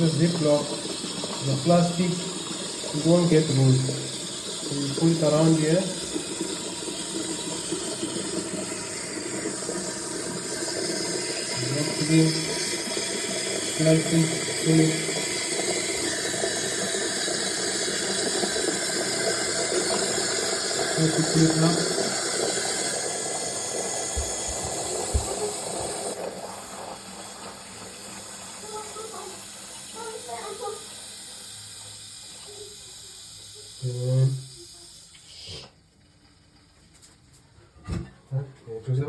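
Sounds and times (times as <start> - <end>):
water filling toilet tank: 0.0 - 35.8.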